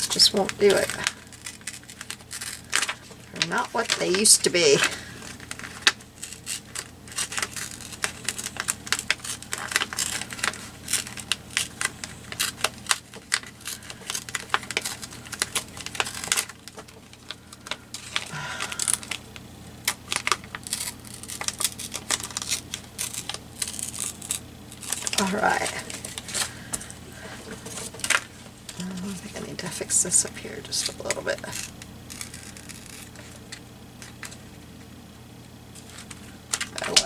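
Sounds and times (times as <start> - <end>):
paper crinkling and rustling: 0.0 - 35.0, 35.7 - 37.0.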